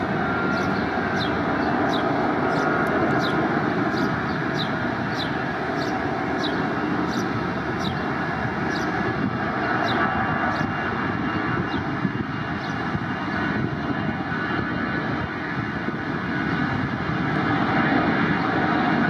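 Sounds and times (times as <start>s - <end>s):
jet engine noise: 0.0s - 19.0s.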